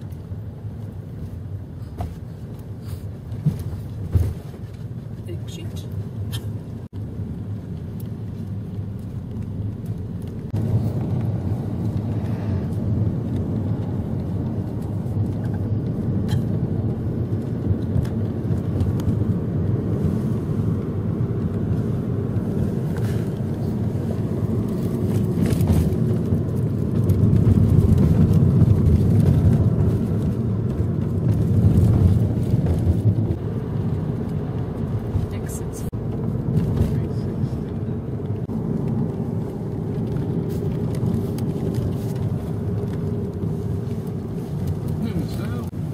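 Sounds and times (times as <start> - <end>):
car engine and road rumble: 0.0 - 45.9.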